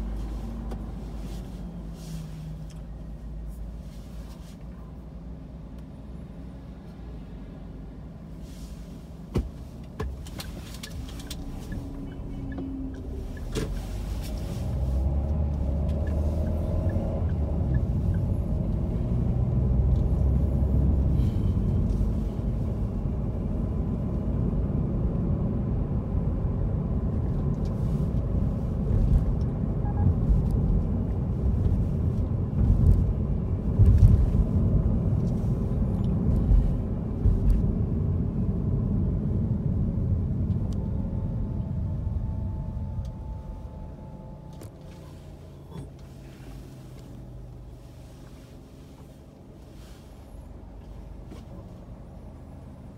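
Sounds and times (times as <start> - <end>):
engine and tyre rumble: 0.0 - 52.9.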